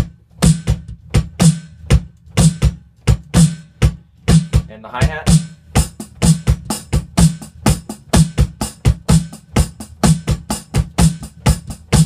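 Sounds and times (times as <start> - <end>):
snare drum: 0.0 - 4.7, 5.3 - 12.0
bass drum: 0.0 - 12.0
hi-hat strokes: 0.0 - 12.0.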